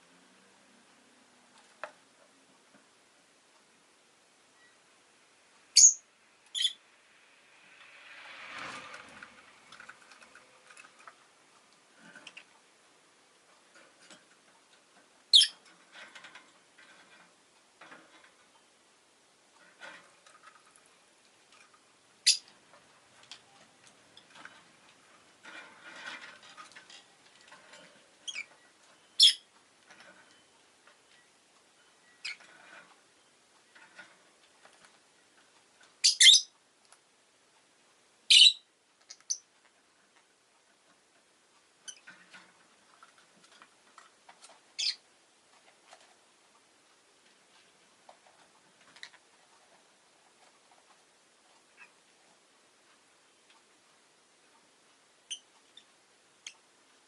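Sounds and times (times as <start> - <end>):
soft clicking and rustling: 1.1 - 3.7, 7.7 - 18.7, 19.5 - 36.0, 36.6 - 38.0, 38.9 - 57.0.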